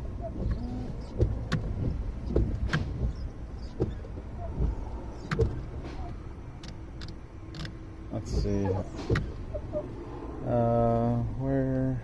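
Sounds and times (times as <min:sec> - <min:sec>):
wiper blades sweeping glass: 0:00.0 - 0:11.1
wiper clicking: 0:00.0 - 0:11.1
wiper motor humming: 0:00.0 - 0:12.0.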